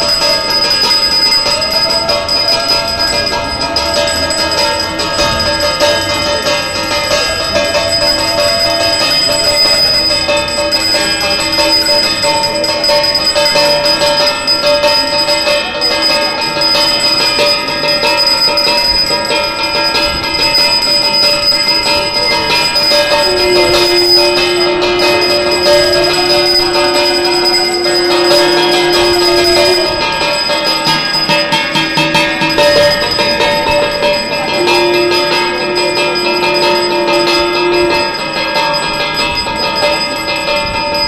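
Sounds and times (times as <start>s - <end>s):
temple bells ringing: 0.0s - 41.0s.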